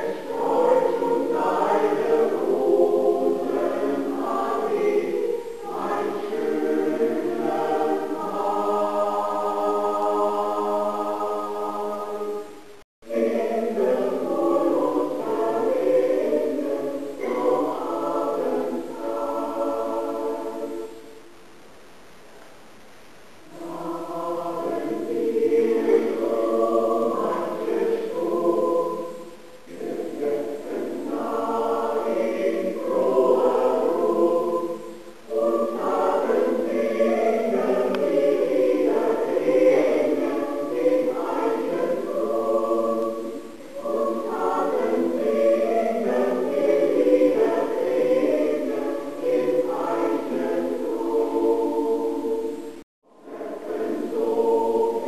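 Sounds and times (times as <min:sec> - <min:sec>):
choir singing: 0:00.0 - 0:21.3, 0:23.4 - 0:55.0.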